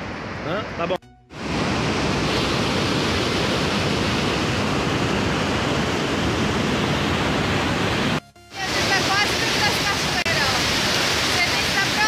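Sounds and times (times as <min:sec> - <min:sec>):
large waterfall rushing: 0:00.1 - 0:12.0.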